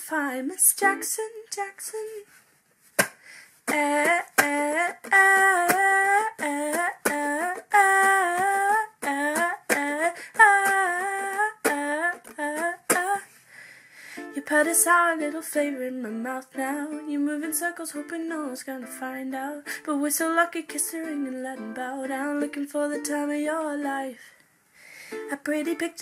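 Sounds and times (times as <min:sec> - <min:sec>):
woman singing wordless melody: 0:00.0 - 0:02.3, 0:03.7 - 0:13.3, 0:14.2 - 0:24.4, 0:25.2 - 0:26.0.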